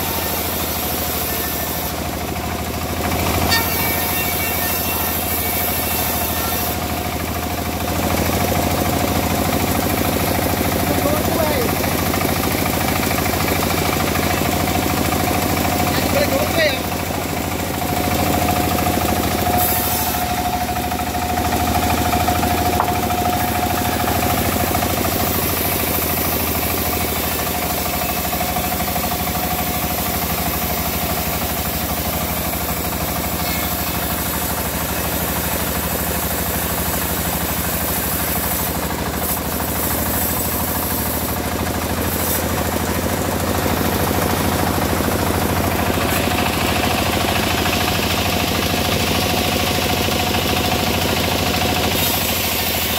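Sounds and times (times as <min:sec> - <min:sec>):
engine-driven saw running: 0:00.0 - 0:52.9.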